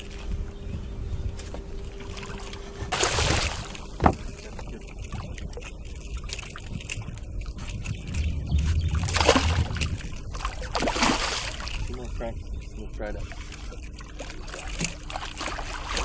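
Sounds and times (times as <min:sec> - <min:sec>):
water splashing against a boat: 0:00.0 - 0:16.0.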